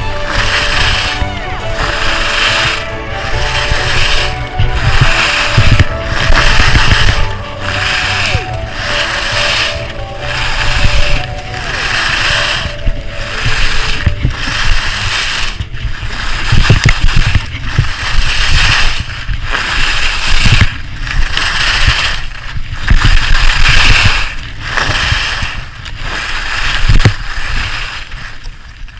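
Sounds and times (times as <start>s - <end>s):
skis scraping on snow: 0.0s - 28.9s
wind rumble on microphone: 0.0s - 28.9s.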